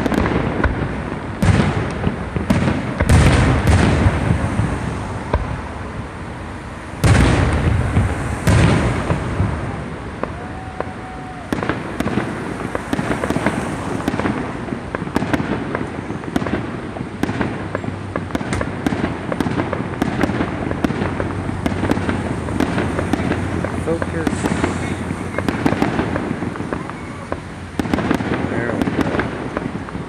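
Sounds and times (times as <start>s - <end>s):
firework boom: 0.0s - 29.8s
fireworks crackling pops: 0.0s - 30.0s.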